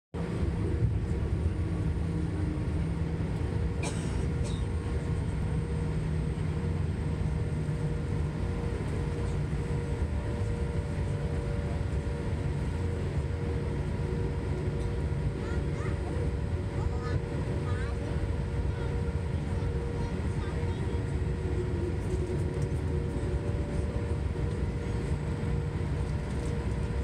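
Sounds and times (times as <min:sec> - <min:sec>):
airplane cabin engine drone: 0:00.2 - 0:27.0.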